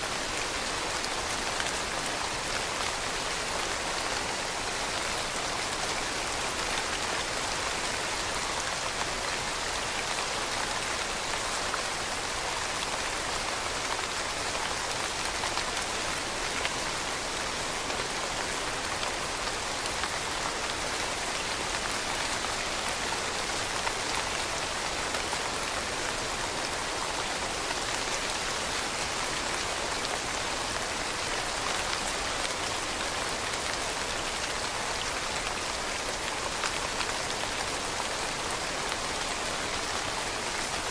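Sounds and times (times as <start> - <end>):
rain falling on leaves: 0.0 - 40.9.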